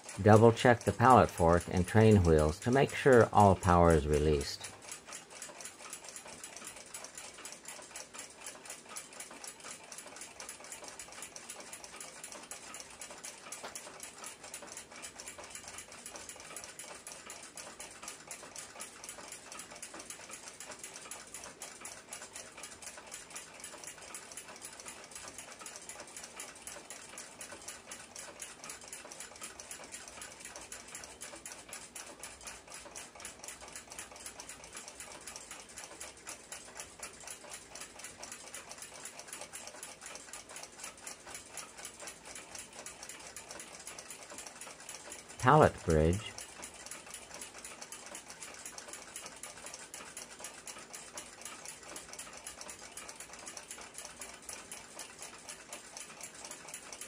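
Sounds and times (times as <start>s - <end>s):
clock ticking: 0.0s - 9.5s, 19.6s - 56.6s.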